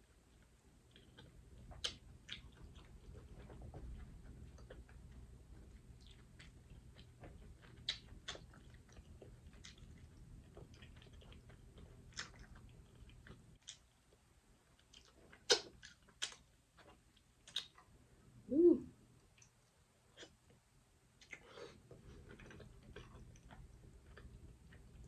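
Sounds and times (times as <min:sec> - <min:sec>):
low background hum: 0:00.0 - 0:25.0
wet chewing: 0:00.3 - 0:17.9, 0:21.2 - 0:25.0.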